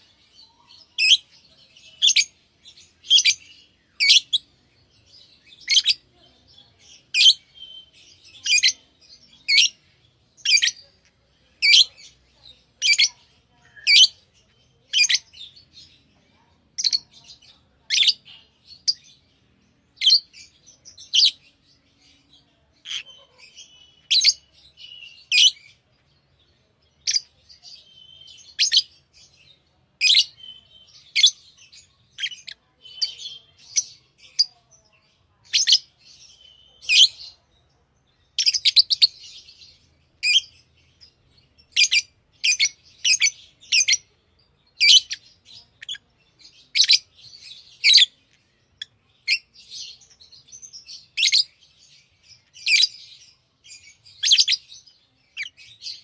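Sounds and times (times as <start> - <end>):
soft bird chattering: 0.0 - 19.2, 19.9 - 34.8, 35.4 - 37.4, 38.3 - 56.0
lovebirds chirping: 0.0 - 56.0.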